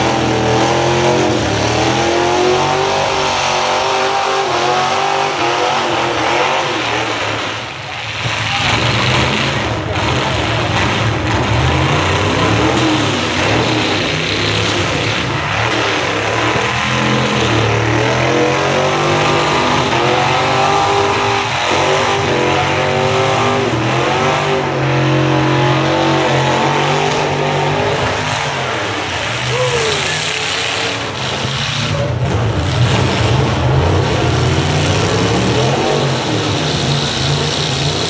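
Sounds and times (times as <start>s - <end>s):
car engines revving hard: 0.0s - 38.0s.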